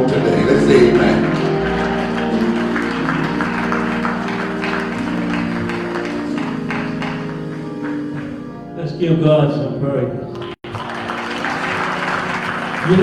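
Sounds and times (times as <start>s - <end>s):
sustained organ-like chords: 0.0s - 13.0s.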